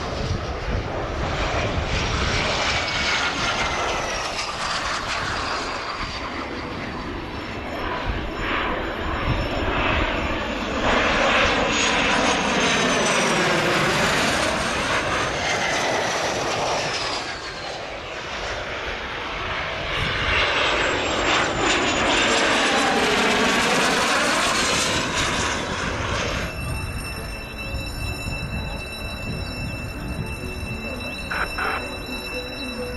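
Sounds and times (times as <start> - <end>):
jet engine whine passing: 0.0 - 32.9.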